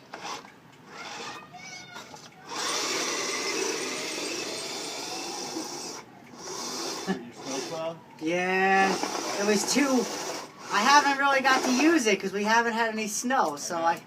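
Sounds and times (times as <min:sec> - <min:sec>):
snow machine motor whirring: 0:00.0 - 0:12.2.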